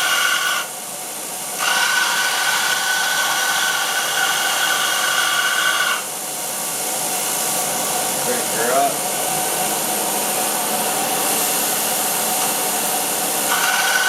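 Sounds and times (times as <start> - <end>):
belt grinder hiss: 0.0 - 14.0.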